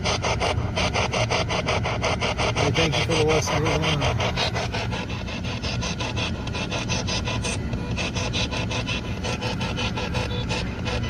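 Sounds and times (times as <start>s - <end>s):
rapid chopping static bursts: 0.0s - 11.0s.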